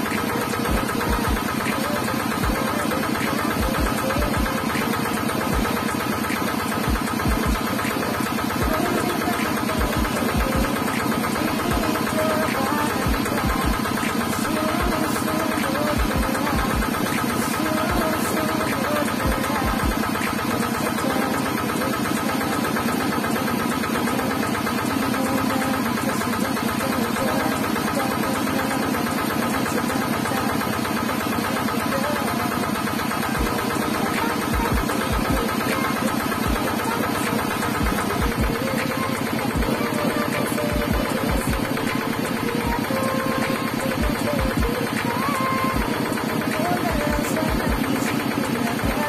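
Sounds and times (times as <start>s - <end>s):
coconut grater motor rattling: 0.0s - 49.0s.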